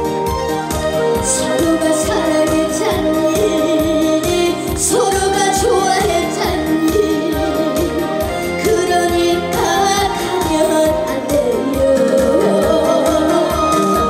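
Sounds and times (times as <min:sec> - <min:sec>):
band accompaniment with steady beat: 0:00.0 - 0:14.0
woman singing with vibrato: 0:01.2 - 0:14.0.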